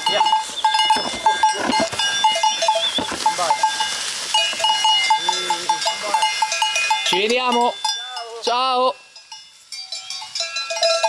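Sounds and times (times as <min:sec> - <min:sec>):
cowbells clanging: 0:00.0 - 0:11.0.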